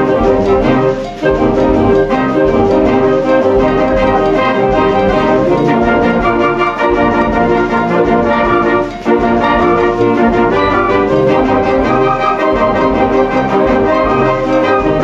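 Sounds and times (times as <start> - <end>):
drums: 0.0 - 15.0
wind band playing sustained chords: 0.0 - 15.0.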